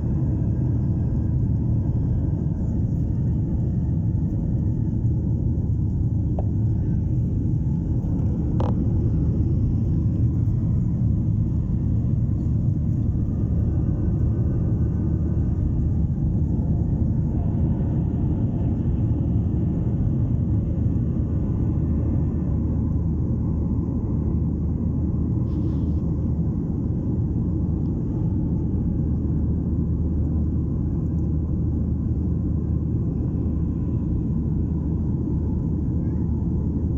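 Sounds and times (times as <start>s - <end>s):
jet engine cabin rumble: 0.0s - 36.9s.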